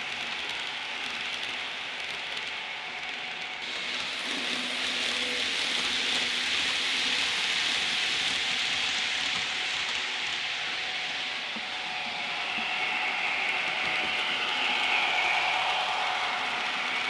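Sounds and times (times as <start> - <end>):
model train rumbling past: 0.0 - 17.0.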